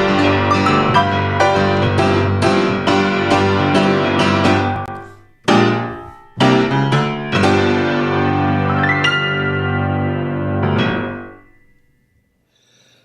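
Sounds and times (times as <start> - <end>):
piano playing: 0.0 - 11.8.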